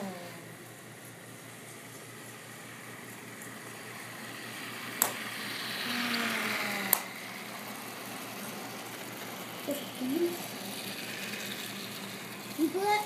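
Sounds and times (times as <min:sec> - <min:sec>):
toy train mechanical hum: 0:00.0 - 0:13.0.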